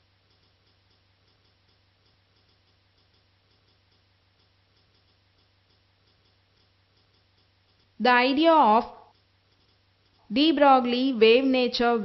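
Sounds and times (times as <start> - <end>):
faint ticking: 0.0 - 11.8
faint low hum: 0.0 - 12.0.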